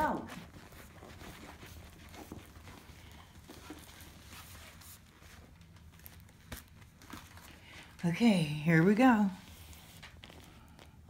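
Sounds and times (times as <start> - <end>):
soft taps and rustles: 0.0 - 8.1, 9.4 - 11.0.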